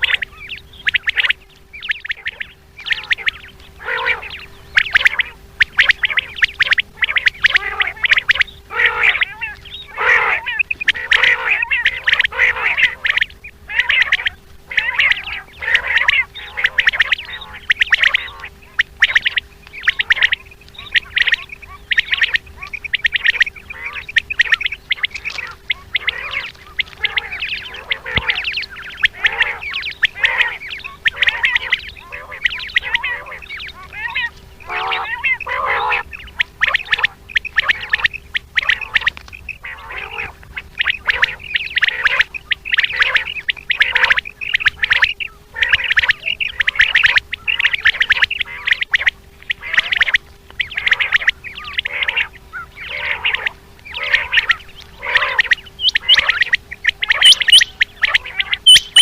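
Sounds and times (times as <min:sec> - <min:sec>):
faint steady hum: 0:00.0 - 0:59.0
quail calling: 0:00.0 - 0:59.0.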